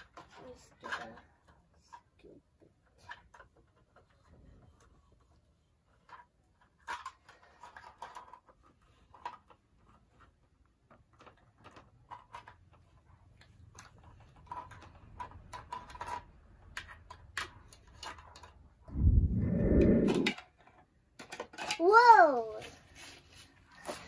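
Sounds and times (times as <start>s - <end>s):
plastic toys clicking and tapping: 0.0s - 18.8s, 20.3s - 24.0s.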